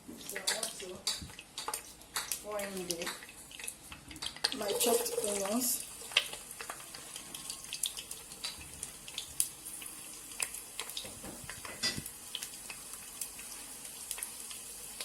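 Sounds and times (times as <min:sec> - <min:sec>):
onions sizzling in oil: 0:00.0 - 0:15.0
crackles and pops: 0:00.2 - 0:15.0.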